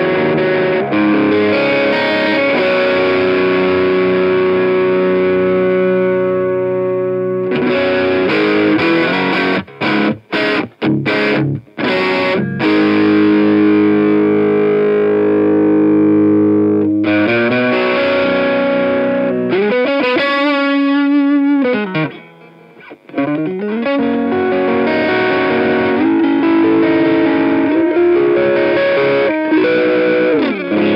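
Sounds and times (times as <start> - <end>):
overdriven electric guitar: 0.0 - 30.9.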